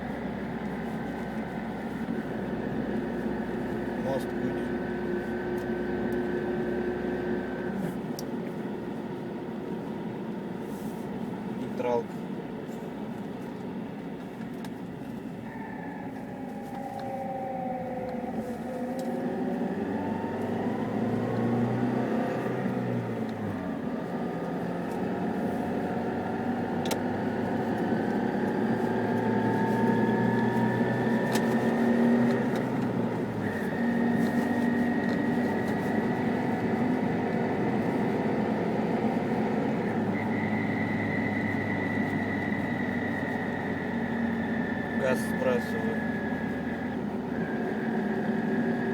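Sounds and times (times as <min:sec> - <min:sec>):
car howl and whistle: 0:00.0 - 0:12.0, 0:13.7 - 0:48.9
car running noise: 0:00.0 - 0:48.9.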